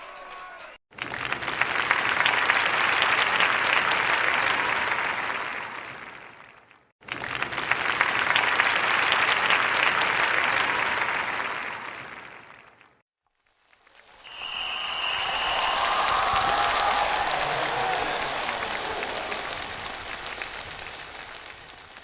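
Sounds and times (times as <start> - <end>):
crowd applauding: 0.0 - 6.4, 7.1 - 12.7, 13.8 - 22.0.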